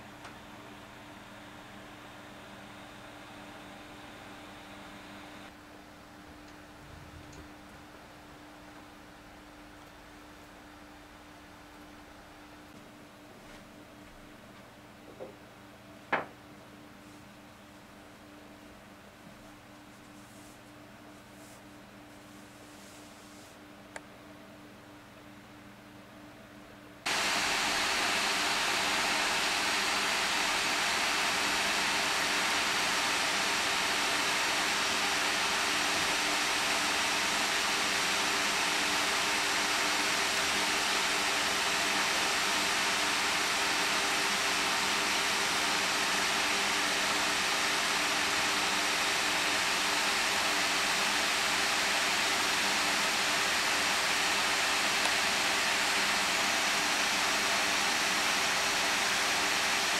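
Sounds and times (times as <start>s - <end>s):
cooling fans rushing air: 0.0s - 59.9s.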